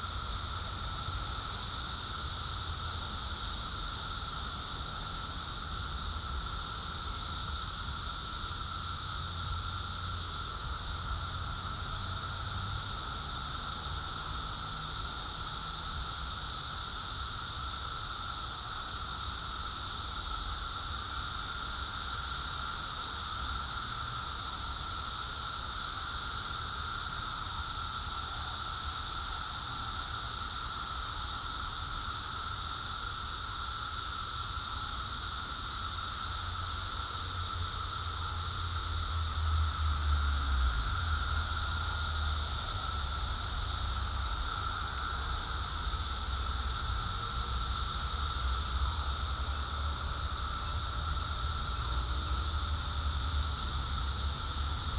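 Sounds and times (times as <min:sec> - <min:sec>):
cicadas shrill hiss: 0:00.0 - 0:54.9
low steady whining tone: 0:00.0 - 0:54.9.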